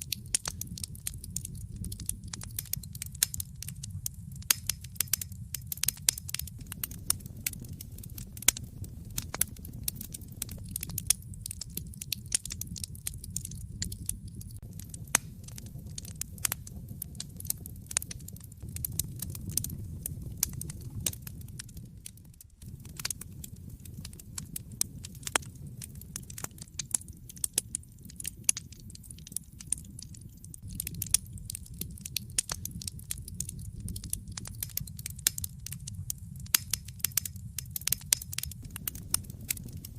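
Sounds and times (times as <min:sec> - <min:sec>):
fire flames rumbling: 0:00.0 - 0:39.9
wood crackling and popping: 0:00.0 - 0:39.9.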